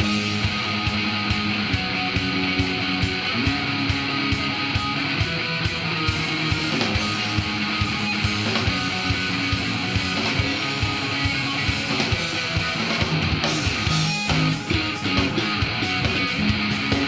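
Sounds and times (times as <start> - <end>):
bass guitar: 0.0 - 17.0
drums keeping a fast beat: 0.0 - 17.0
electric guitar: 0.0 - 17.0.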